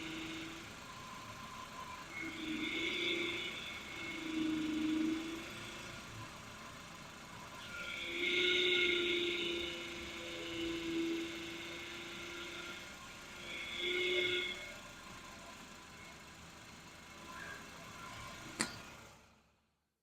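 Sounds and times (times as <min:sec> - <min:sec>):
power steering pump whining: 0:00.0 - 0:19.2.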